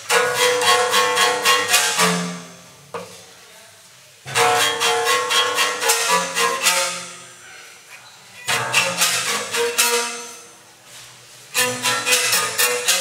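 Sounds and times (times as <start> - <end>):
bowed string instrument: 0.0 - 3.3, 4.2 - 13.0.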